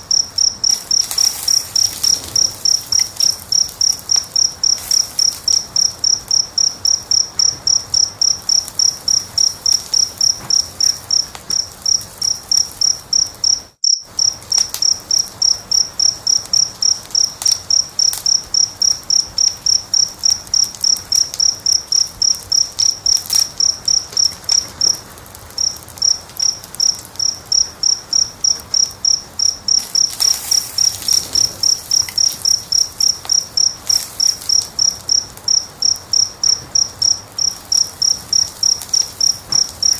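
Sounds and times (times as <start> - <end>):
cricket chirping: 0.0 - 39.9
wood fire crackling: 0.0 - 39.9.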